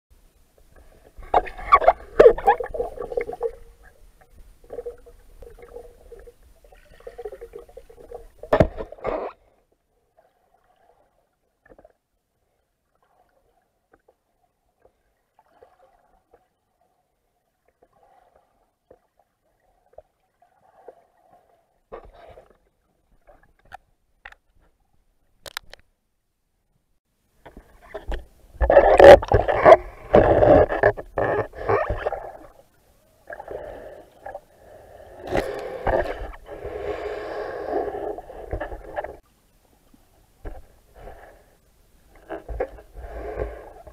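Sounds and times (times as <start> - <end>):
underwater bubbling and gurgling: 0.2 - 23.8, 27.4 - 39.2, 39.8 - 43.9.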